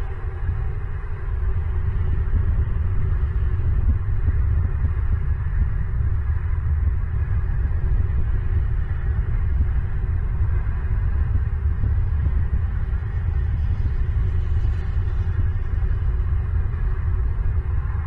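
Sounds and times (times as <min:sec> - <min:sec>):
fluttering low rumble: 0:00.0 - 0:18.0.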